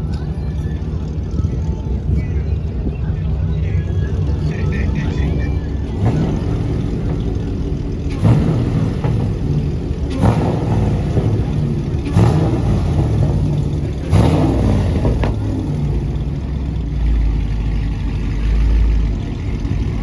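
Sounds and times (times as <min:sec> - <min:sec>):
car engine revving blips: 0:00.0 - 0:20.0
deep low rumble: 0:00.0 - 0:20.0.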